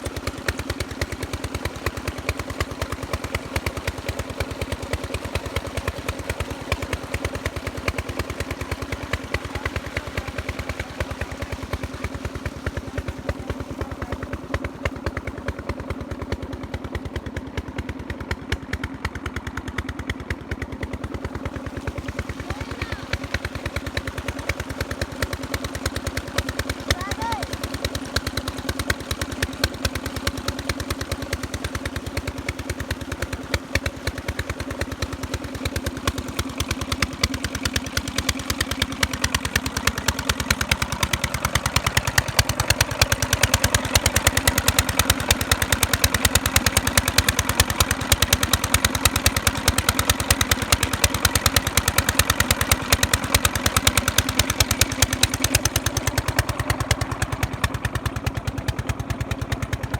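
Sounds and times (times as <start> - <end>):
diesel engine knocking: 0.0 - 59.9.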